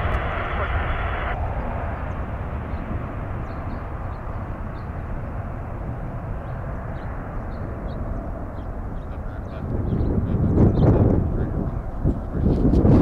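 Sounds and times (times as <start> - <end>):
deep jet roar: 0.0 - 13.0.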